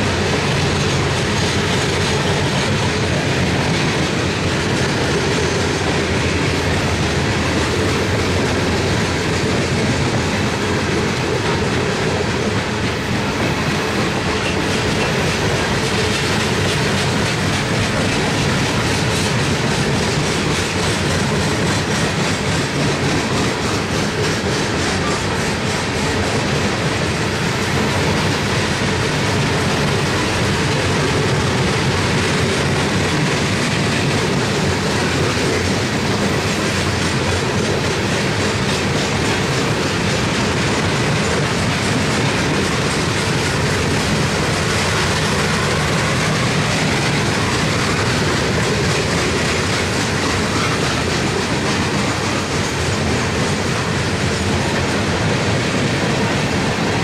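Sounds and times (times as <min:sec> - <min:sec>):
train wheels clattering over rails: 0:00.0 - 0:57.0.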